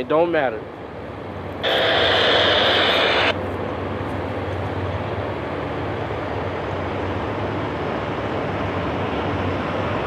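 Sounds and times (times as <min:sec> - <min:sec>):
distant diesel locomotives droning: 0:00.0 - 0:10.0.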